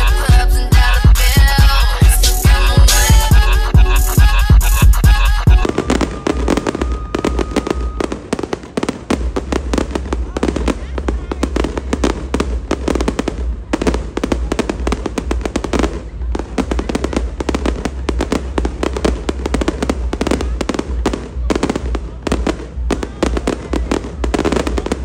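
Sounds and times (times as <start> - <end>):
fireworks bangs and crackles: 4.1 - 25.0.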